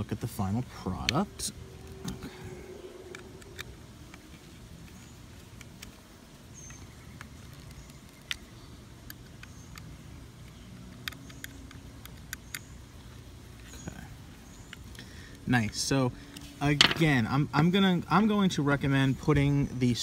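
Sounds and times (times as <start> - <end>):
low background rumble: 0.0 - 18.3.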